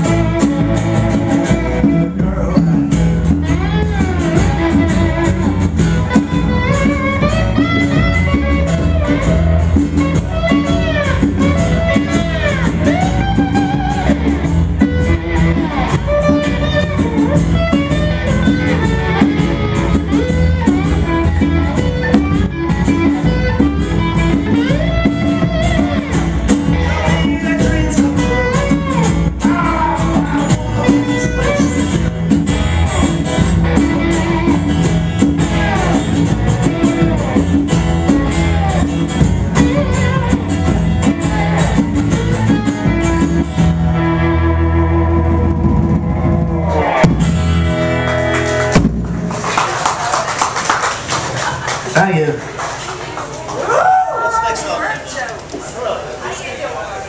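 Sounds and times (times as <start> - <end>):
lap steel guitar sliding notes: 0.0 - 48.8
strummed acoustic guitar: 0.0 - 49.4
steady drum beat: 0.0 - 49.6
electric bass: 0.0 - 50.4.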